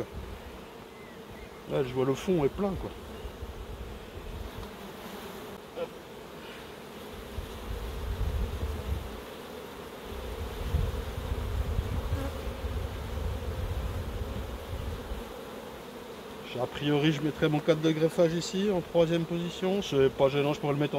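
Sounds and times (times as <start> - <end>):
honeybees humming: 0.0 - 20.9.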